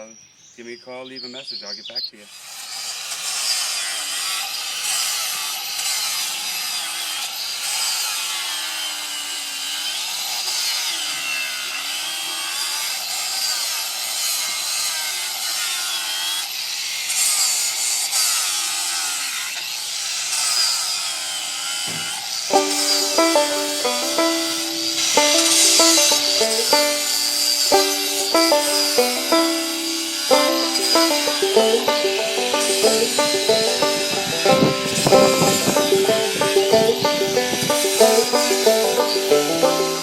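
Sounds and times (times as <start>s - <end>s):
chainsaw cutting wood: 2.3s - 40.0s.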